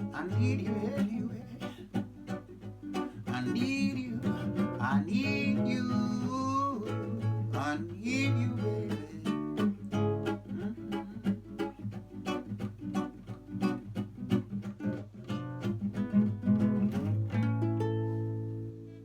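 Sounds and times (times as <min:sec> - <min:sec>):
guitar picking notes: 0:00.0 - 0:19.0.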